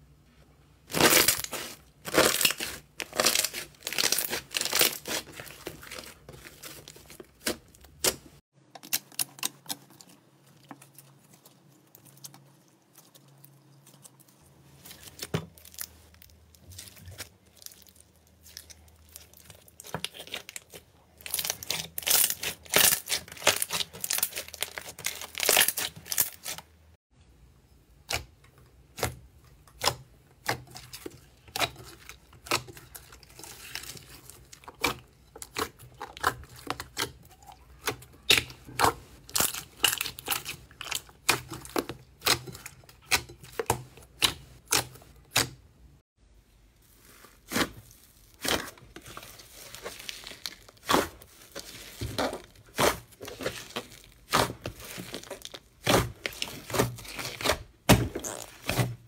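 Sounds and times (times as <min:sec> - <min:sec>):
sticky slime crackling: 0:00.9 - 0:26.7, 0:28.0 - 0:45.6, 0:46.8 - 0:59.0.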